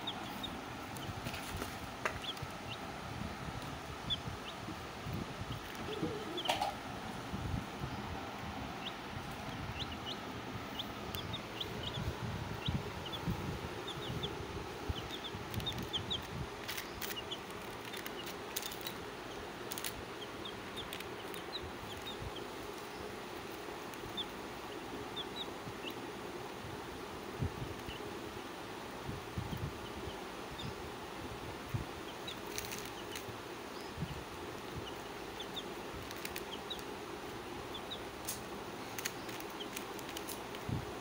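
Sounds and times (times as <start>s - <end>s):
baby chicks peeping: 0.0s - 41.0s
steady background hiss: 0.0s - 41.0s.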